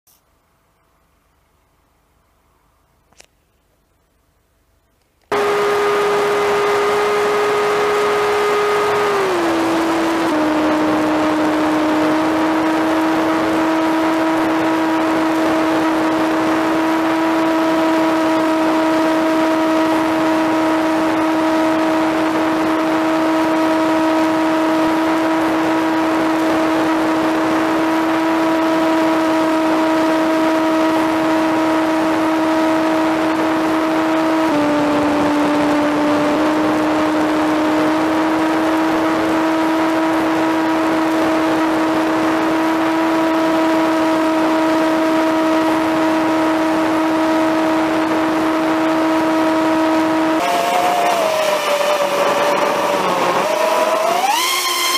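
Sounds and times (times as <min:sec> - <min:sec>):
propeller whine: 0:05.3 - 0:54.9.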